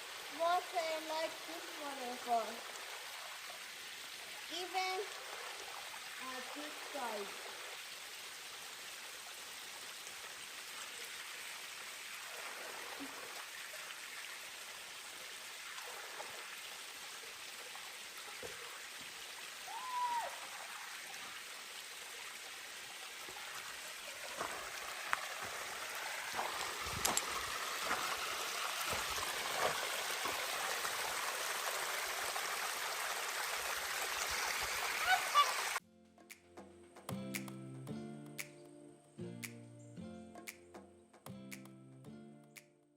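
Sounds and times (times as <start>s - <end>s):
small waterfall splashing: 0.0s - 35.8s.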